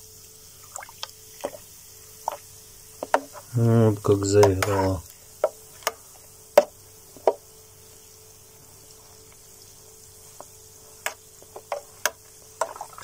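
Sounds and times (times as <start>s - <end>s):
faint steady hum: 0.0s - 13.0s
foam bubbles crackling: 0.5s - 13.0s.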